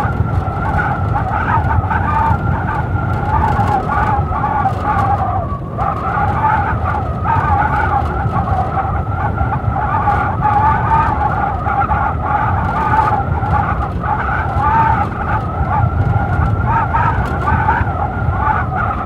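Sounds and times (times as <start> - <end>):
blizzard wind howling: 0.0 - 19.0.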